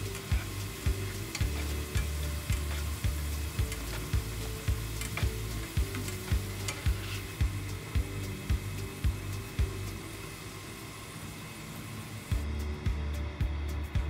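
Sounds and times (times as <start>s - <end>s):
background music with beat: 0.0s - 10.7s, 12.3s - 14.0s
potatoes sizzling in oil: 0.0s - 13.4s.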